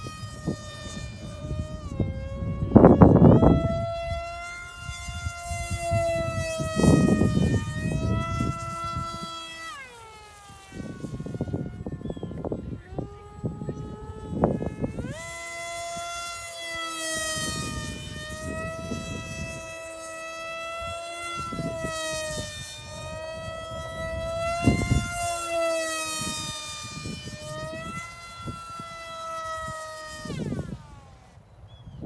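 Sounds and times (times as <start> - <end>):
electric motor and propeller whining: 0.0 - 32.0
wind buffeting microphone: 0.0 - 32.0.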